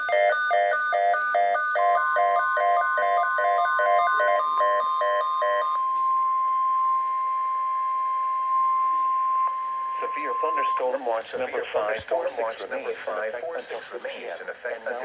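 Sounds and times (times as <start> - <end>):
steady alarm tone: 0.0 - 13.6
rapid receiver beeps: 0.0 - 14.8.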